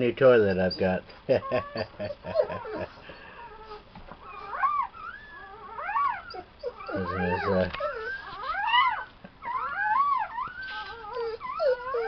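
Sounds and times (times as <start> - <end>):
puppies squealing and whining: 0.2 - 12.0.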